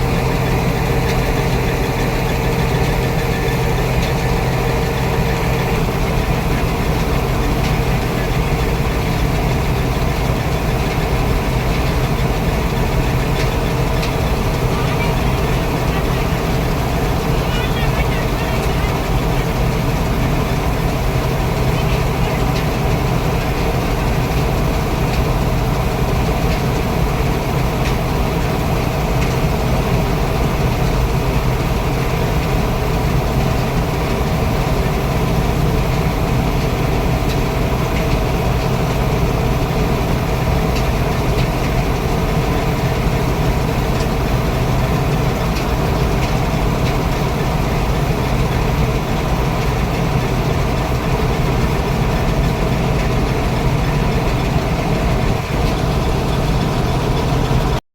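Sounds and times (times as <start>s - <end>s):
combine harvester engine running: 0.0s - 57.8s.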